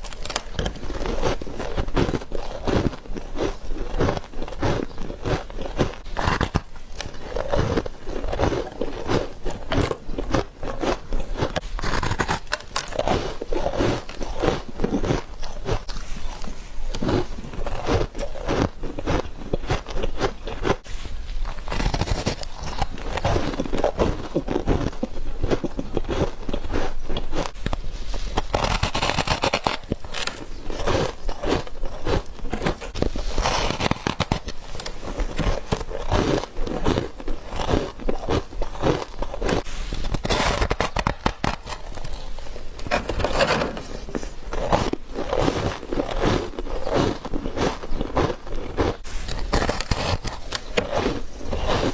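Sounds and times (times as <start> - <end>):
crunching frost and ice: 0.0 - 51.9.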